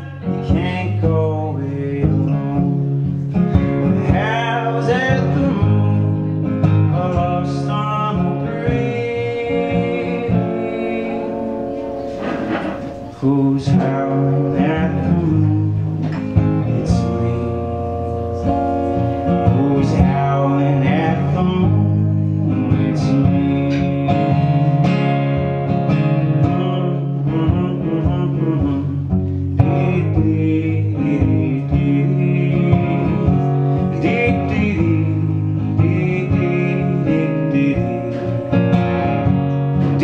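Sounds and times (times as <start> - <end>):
man singing: 0.0 - 11.8, 12.9 - 40.0
acoustic guitar strummed and picked: 0.0 - 40.0.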